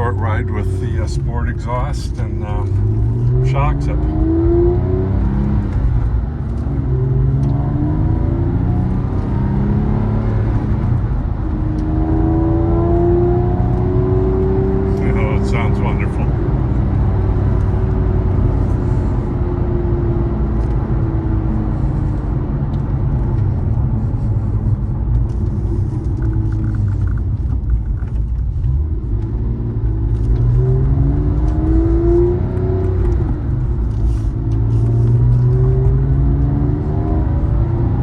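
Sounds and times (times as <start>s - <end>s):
car engine and exhaust: 0.0s - 38.0s.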